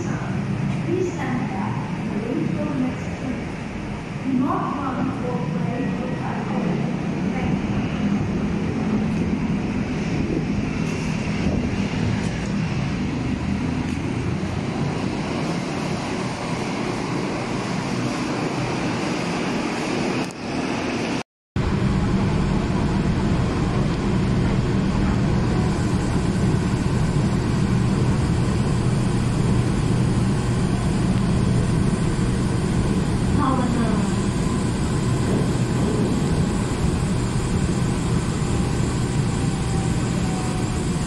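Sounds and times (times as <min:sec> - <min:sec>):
electric train rumble: 0:00.0 - 0:41.0
low hum inside train carriage: 0:00.0 - 0:41.0.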